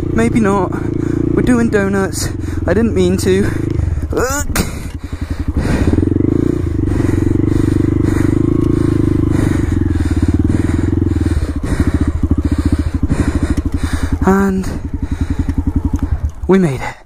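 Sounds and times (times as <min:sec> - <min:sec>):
motorbike engine chugging: 0:00.0 - 0:17.0.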